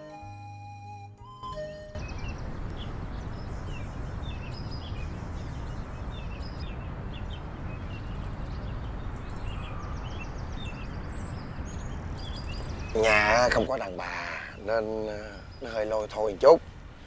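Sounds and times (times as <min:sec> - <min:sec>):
small birds chirping: 0:01.4 - 0:17.0.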